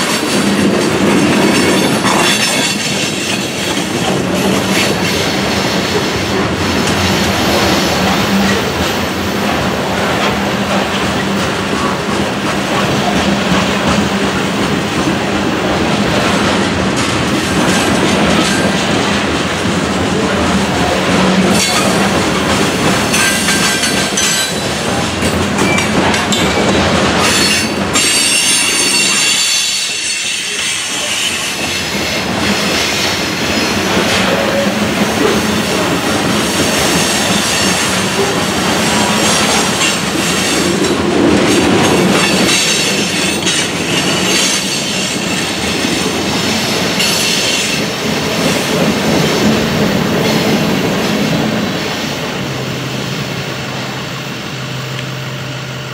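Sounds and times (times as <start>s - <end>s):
wheels clattering over rail joints: 0.0s - 15.2s, 16.1s - 51.5s
train wheels rumbling on rail: 0.0s - 55.9s.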